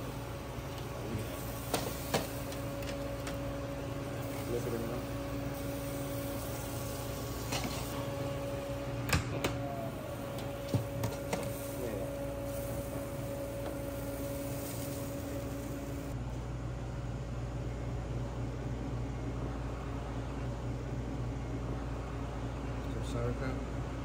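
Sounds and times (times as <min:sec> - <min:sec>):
kitchen equipment hum: 0:00.0 - 0:24.0.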